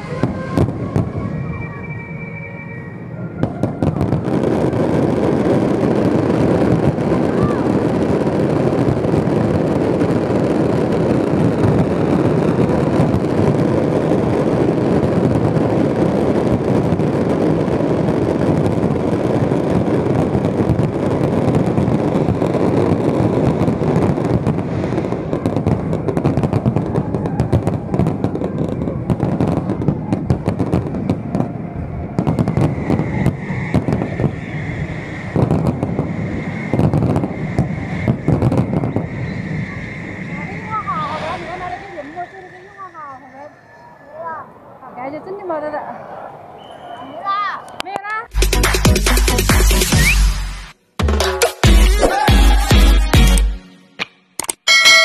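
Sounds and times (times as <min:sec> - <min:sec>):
fireworks bursting and crackling: 0:00.0 - 0:45.8, 0:47.8 - 0:53.5.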